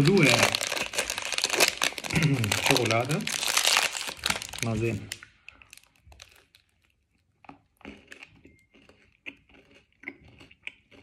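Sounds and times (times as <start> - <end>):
person chewing a snack bar: 0.0 - 11.0.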